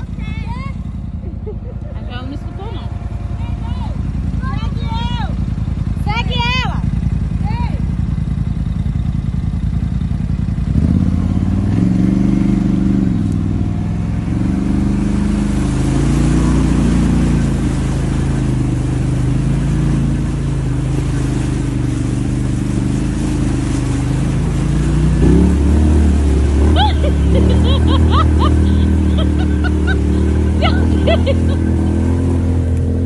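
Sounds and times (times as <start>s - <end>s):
quad bike engine revving: 0.0s - 33.0s
wheels splashing through water: 0.0s - 33.0s.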